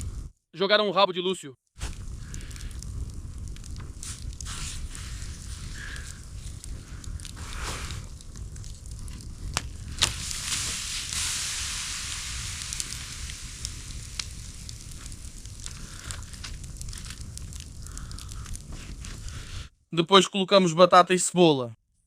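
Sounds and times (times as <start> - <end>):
campfire crackling and hissing: 0.0 - 0.4, 1.8 - 19.8
sharp fire pops: 1.8 - 19.7.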